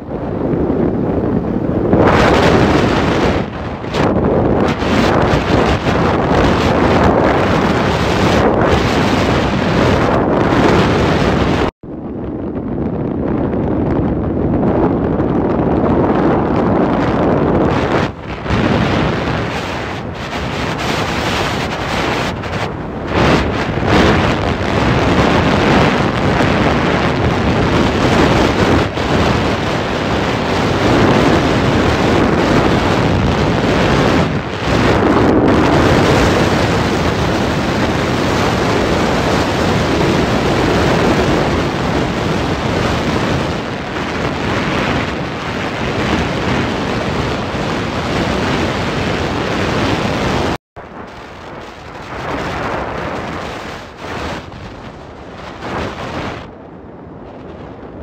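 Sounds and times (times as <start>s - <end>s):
scooter and road noise: 0.0s - 58.0s
wind rushing over microphone: 0.0s - 58.0s.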